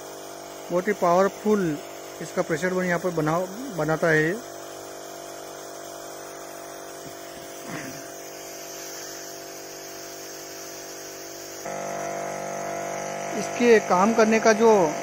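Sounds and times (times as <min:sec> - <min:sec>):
electric sprayer pump hum: 0:00.0 - 0:15.0.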